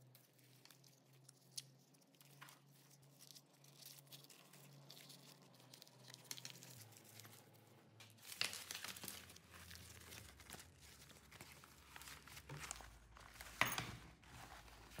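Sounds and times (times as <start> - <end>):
fabric rustling and crinkling: 0.1 - 15.0.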